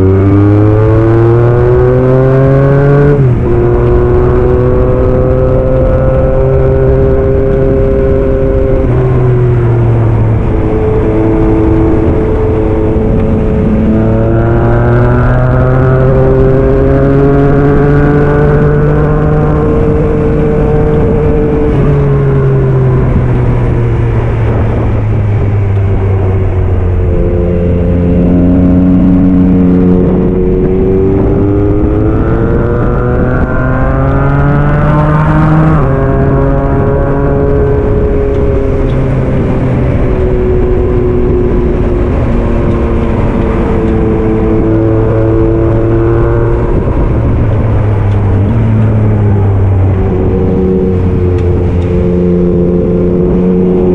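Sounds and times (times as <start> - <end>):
motorcycle engine revving: 0.0 - 53.9
wind rushing: 0.0 - 53.9.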